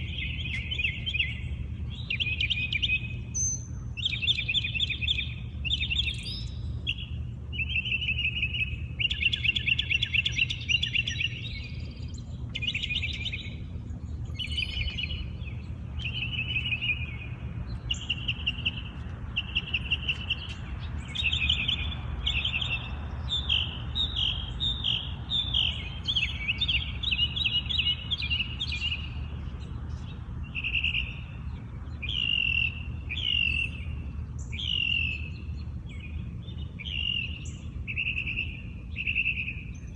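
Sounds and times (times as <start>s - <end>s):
steady low rumble: 0.0s - 38.0s
songbird singing: 0.0s - 39.9s.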